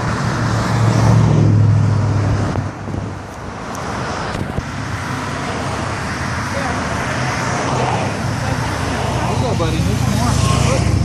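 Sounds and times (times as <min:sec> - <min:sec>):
car engine passing: 0:00.0 - 0:11.0
traffic noise: 0:00.0 - 0:11.0.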